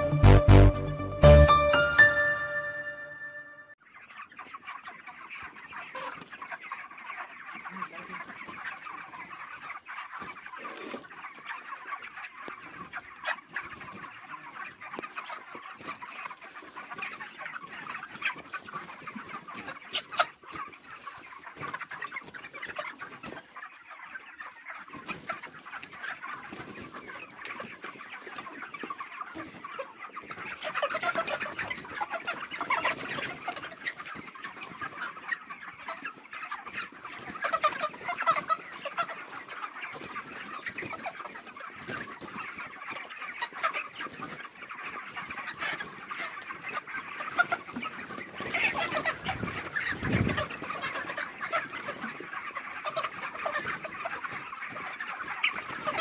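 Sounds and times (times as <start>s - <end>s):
chickens clucking and peeping: 0.0s - 56.0s.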